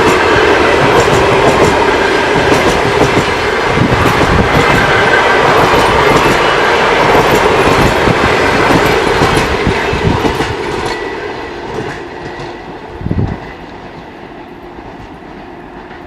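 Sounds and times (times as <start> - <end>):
train wheels clacking over rail joints: 0.0 - 16.0.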